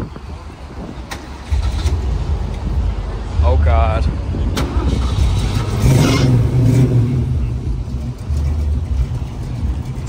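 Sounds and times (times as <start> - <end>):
car engine revving and idling: 0.8 - 10.0.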